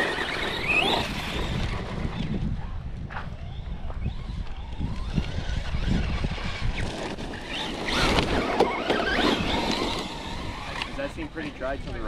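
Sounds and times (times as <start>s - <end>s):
electric motors whining: 0.0s - 12.0s
wind rumble on microphone: 0.0s - 12.0s.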